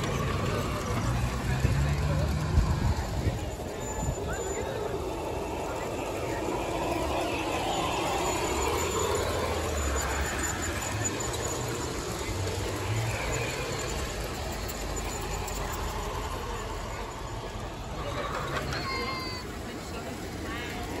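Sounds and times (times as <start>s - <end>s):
model train wheels clicking on rails: 0.0s - 21.0s.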